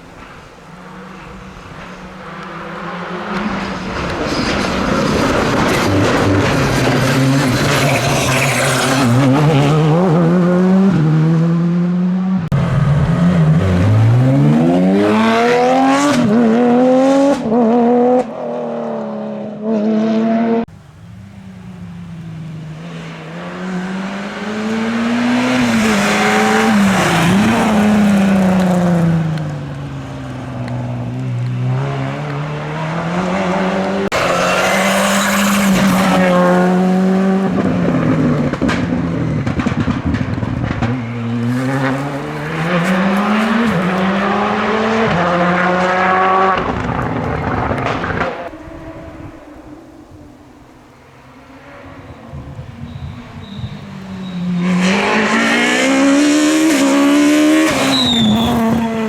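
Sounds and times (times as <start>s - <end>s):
rally car engines revving: 0.0s - 20.7s, 21.6s - 59.0s
car passing: 0.0s - 59.0s.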